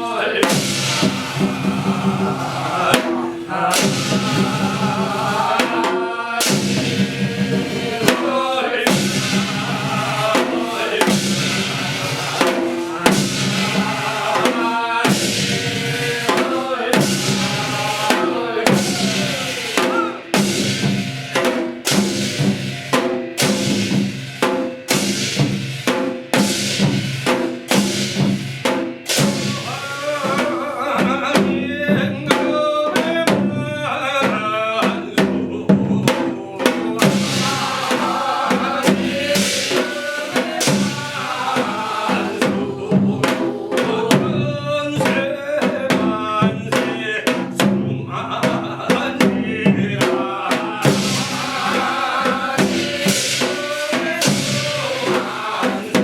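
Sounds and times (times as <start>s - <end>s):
drums and percussion beat: 0.0s - 56.0s.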